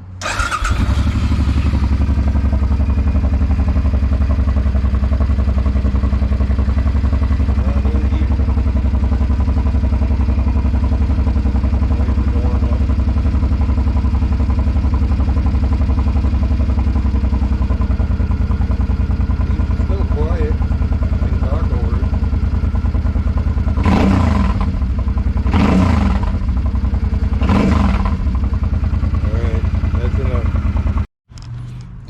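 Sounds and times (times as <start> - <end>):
motorcycle engine idling: 0.2 - 32.0.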